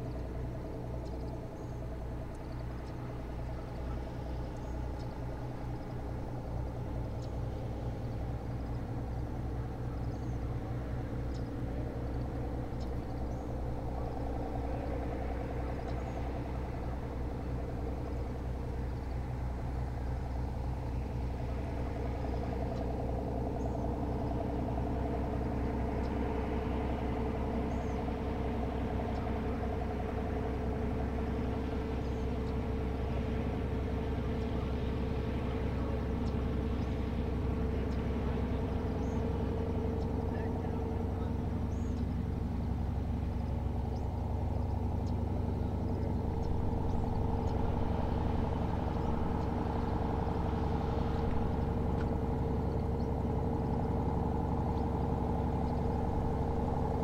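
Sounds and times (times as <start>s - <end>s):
engine drone: 0.0s - 57.0s.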